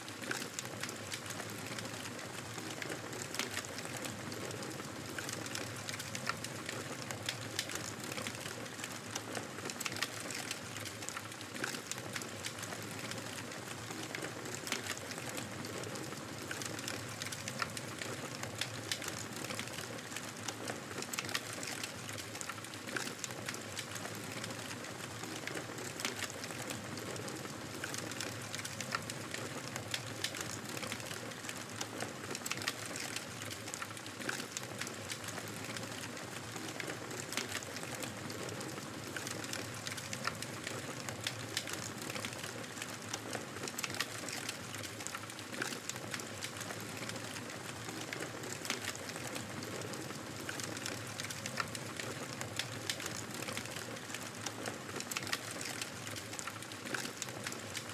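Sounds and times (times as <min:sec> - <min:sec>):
wood fire crackling: 0:00.1 - 0:57.9.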